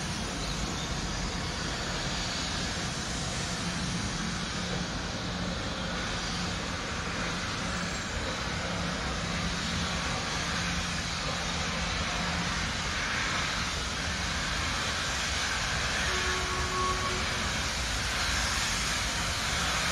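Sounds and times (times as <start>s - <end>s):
steam locomotive hiss and rumble: 0.0s - 19.9s.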